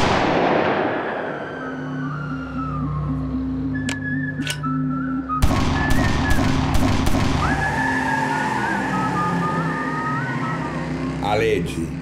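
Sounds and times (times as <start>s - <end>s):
music with held tones: 1.5s - 12.0s.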